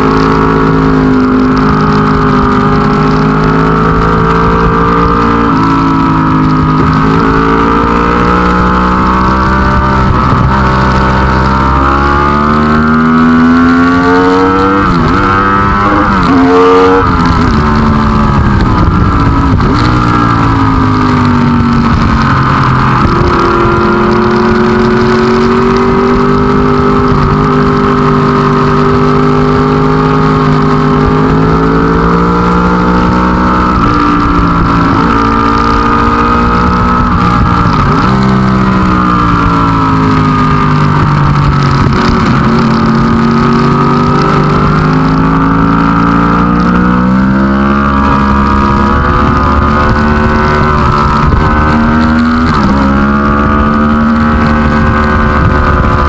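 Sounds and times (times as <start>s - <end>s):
racing engine at high revs: 0.0s - 56.0s.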